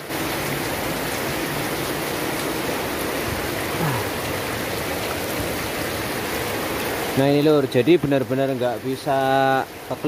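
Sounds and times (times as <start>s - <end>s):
heavy rain on concrete: 0.0s - 10.0s.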